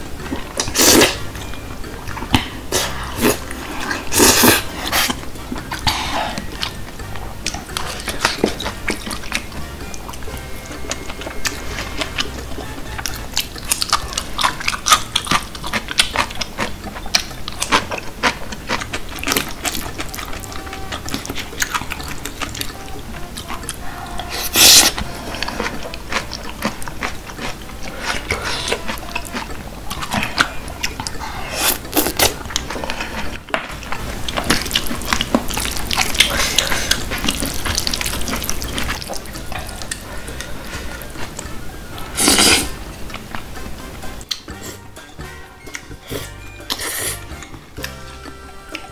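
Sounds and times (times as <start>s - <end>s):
chopsticks stirring sticky noodles: 0.0s - 48.9s
wet chewing and mouth smacks: 0.2s - 44.9s.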